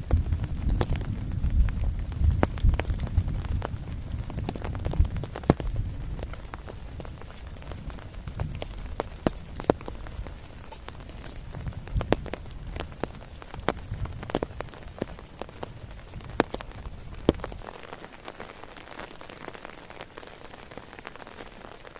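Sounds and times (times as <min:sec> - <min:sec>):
large raindrops tapping: 0:00.0 - 0:21.9
rain falling: 0:00.0 - 0:21.9.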